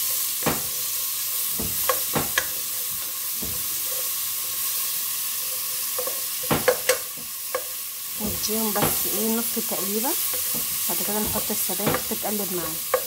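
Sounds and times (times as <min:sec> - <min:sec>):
spatula scraping and knocking pan: 0:00.0 - 0:09.3, 0:10.2 - 0:13.0
onion and garlic sizzling in pan: 0:00.0 - 0:13.0.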